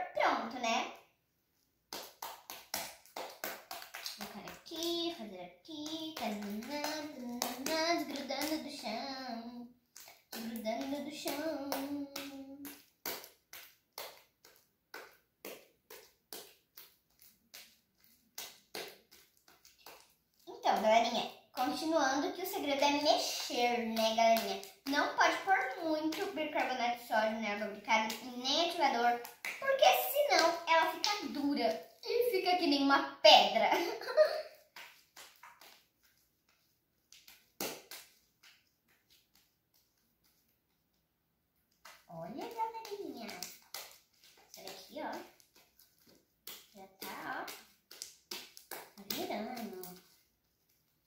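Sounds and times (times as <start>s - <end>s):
slime squelching on tile floor: 1.6s - 32.4s, 33.7s - 51.0s.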